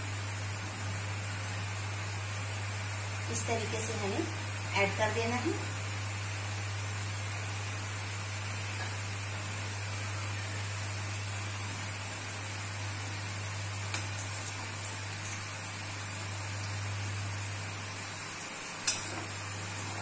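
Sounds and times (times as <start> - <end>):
food sizzling in hot oil: 1.8 - 20.0.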